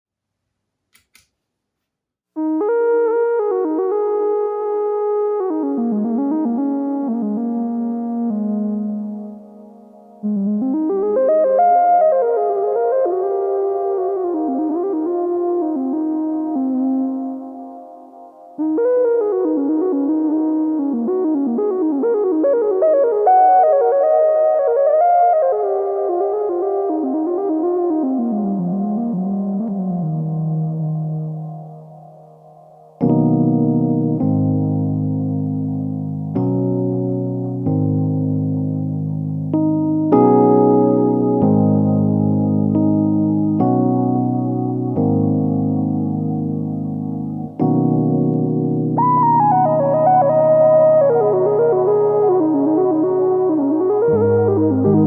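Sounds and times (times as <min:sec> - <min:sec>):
electric piano chords: 0:02.4 - 0:55.0
synthesizer lead melody: 0:02.4 - 0:55.0.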